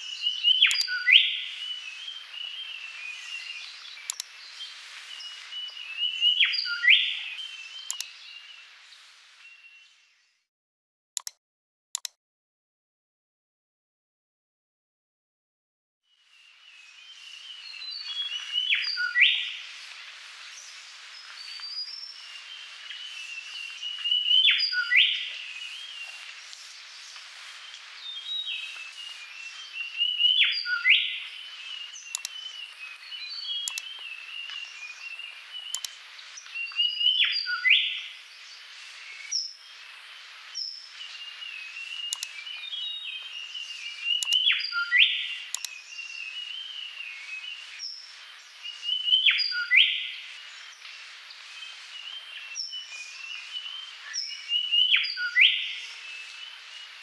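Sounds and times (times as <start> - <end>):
small birds chirping: 0.0 - 10.5, 16.2 - 57.0.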